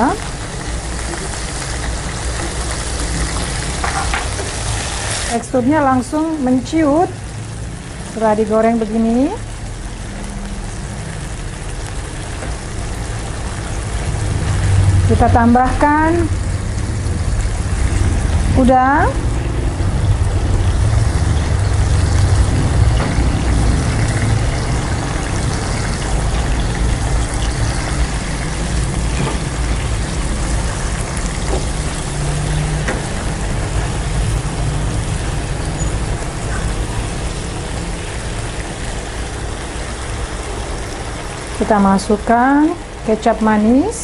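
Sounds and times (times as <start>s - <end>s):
seafood sizzling in a frying pan: 0.0s - 44.0s.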